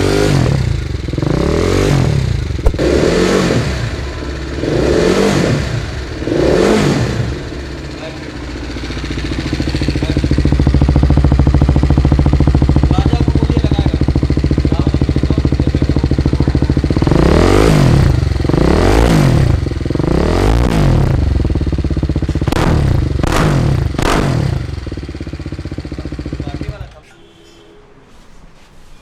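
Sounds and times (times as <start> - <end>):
throttle revs: 0.0 - 27.1
motorcycle engine idling: 0.0 - 27.8.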